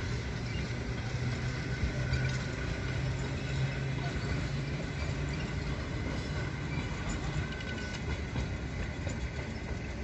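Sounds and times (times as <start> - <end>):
distant streetcar rumbling on rails: 0.0 - 10.0.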